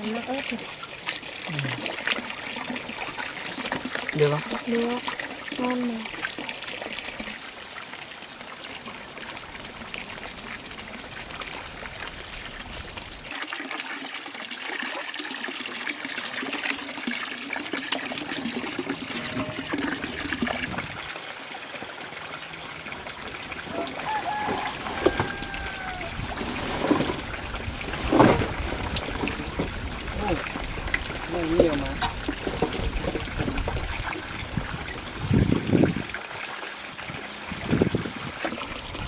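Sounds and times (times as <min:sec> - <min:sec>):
water trickling: 0:00.0 - 0:39.0.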